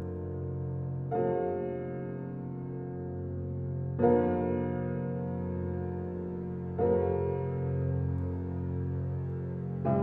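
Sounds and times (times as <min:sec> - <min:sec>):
slow calm background music: 0:00.0 - 0:10.0.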